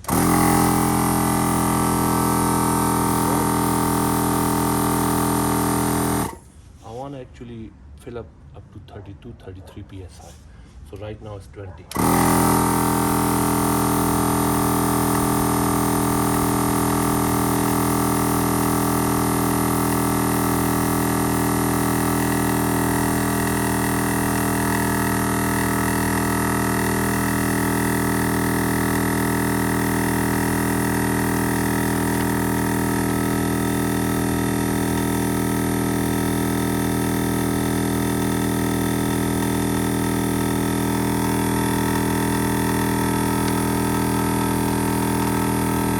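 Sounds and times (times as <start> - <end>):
air compressor motor drone: 0.0 - 6.9, 11.9 - 45.9.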